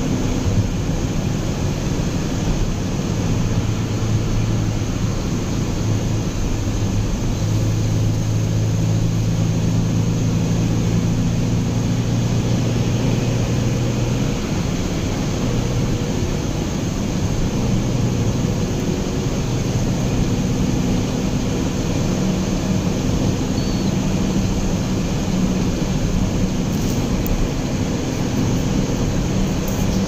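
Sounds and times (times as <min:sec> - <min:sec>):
car road and engine drone: 0:00.0 - 0:30.0.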